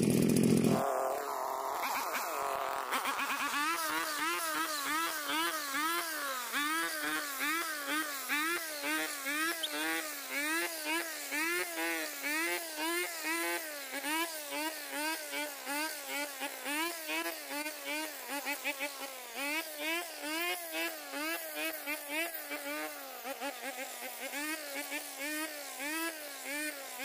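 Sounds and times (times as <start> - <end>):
brush cutter engine whining: 0.0 - 27.0.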